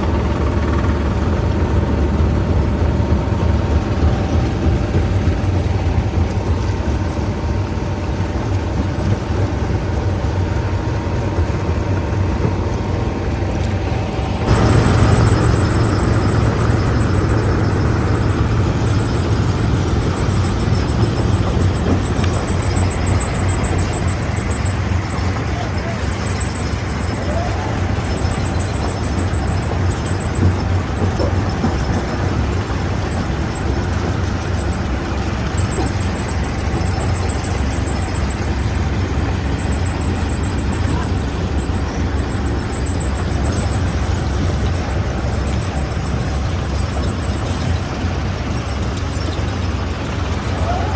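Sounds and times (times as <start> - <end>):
heavy machinery rumbling: 0.0 - 50.9.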